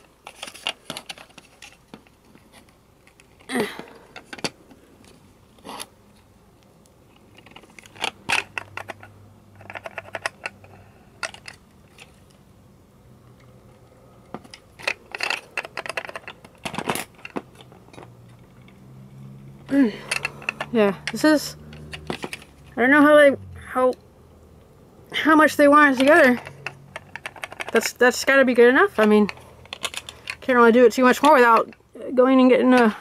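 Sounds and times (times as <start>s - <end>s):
toy truck parts clicking and scraping: 0.0s - 12.5s, 13.2s - 23.2s, 25.2s - 33.0s.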